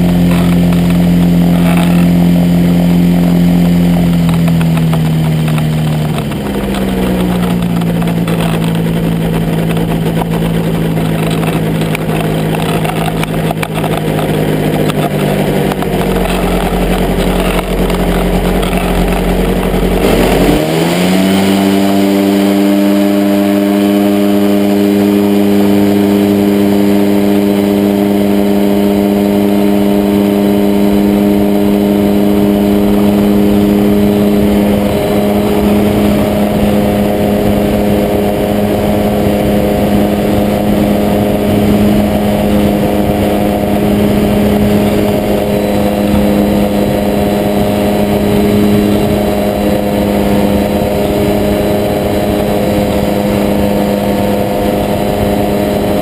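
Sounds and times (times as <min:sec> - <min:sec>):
ultralight engine drone: 0:00.0 - 0:56.0
wind rush on microphone: 0:00.0 - 0:56.0.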